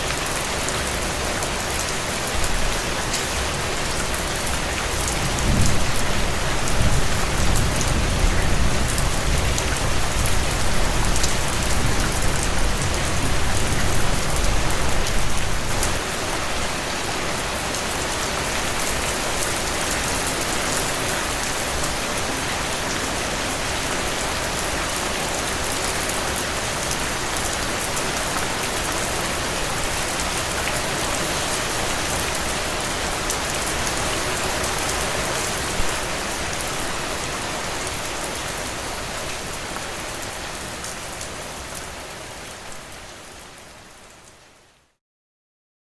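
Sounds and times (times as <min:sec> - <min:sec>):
heavy rain falling: 0:00.0 - 0:44.1.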